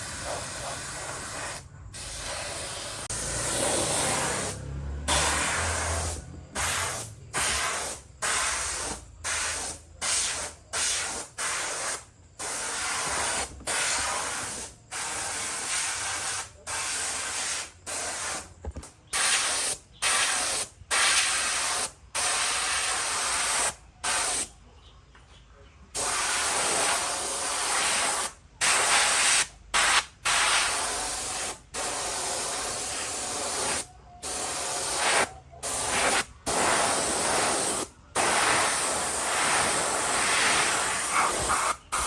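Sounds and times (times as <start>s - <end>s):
spray gun hissing bursts: 0.0s - 18.4s, 26.0s - 42.0s.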